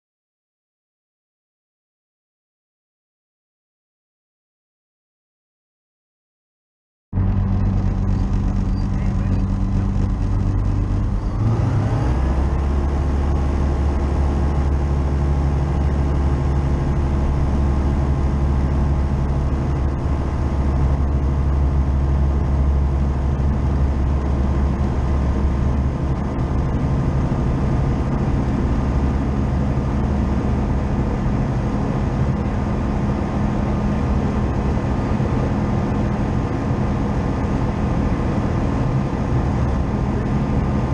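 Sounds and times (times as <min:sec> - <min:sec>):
light aircraft engine: 0:07.2 - 0:40.9.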